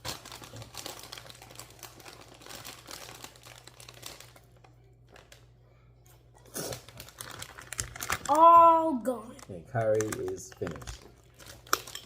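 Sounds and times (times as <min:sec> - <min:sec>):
chip bag crinkling: 0:00.0 - 0:05.5, 0:06.4 - 0:08.6, 0:09.2 - 0:12.0.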